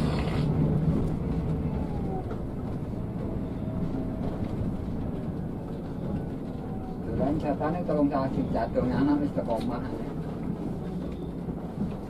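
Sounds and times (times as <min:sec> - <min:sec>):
bus body rattling: 0:00.0 - 0:12.0
diesel engine running low: 0:00.0 - 0:12.0.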